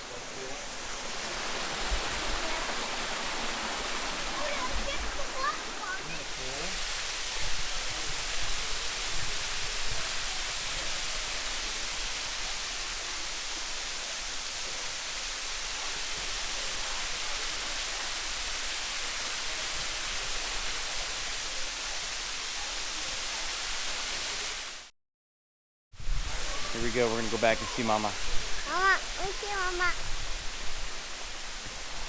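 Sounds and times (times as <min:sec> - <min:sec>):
waterfall rushing: 0:00.0 - 0:24.9, 0:26.2 - 0:32.0.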